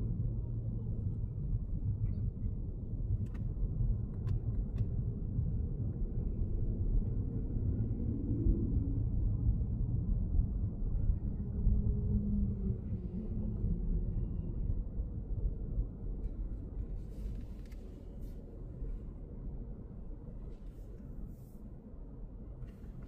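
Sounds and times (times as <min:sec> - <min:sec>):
road and tyre rumble: 0:00.0 - 0:23.0.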